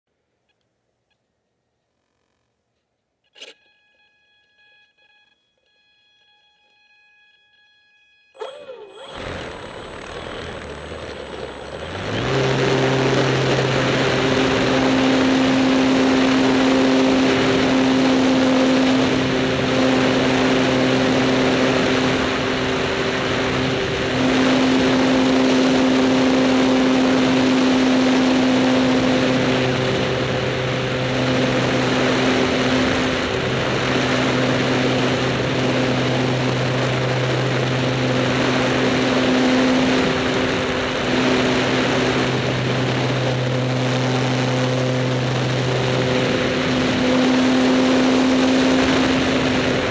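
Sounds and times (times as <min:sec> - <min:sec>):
model airplane electric motor: 0:08.4 - 0:49.9.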